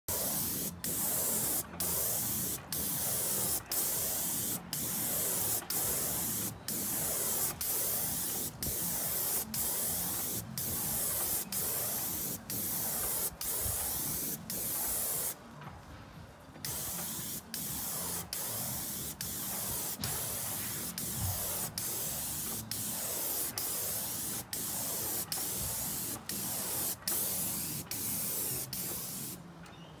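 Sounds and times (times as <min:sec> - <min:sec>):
paint spray gun hissing: 0:00.1 - 0:15.4, 0:16.6 - 0:29.4.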